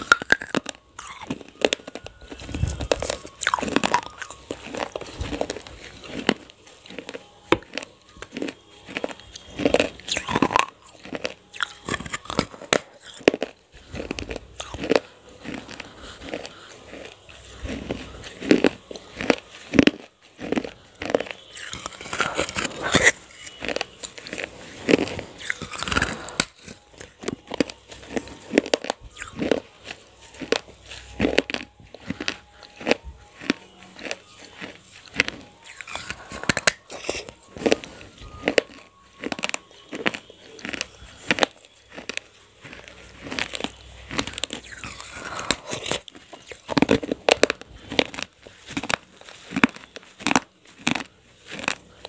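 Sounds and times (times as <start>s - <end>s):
crunching and chewing clay: 0.0s - 52.0s.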